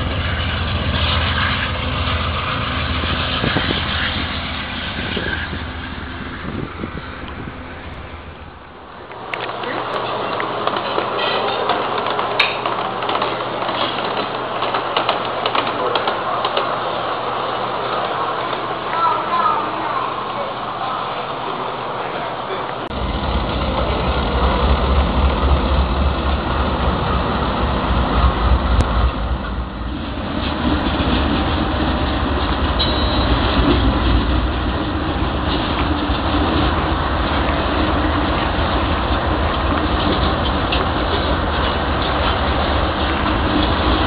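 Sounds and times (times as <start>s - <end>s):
diesel locomotive engine rumble: 0.0s - 44.0s
train rolling noise: 0.0s - 44.0s.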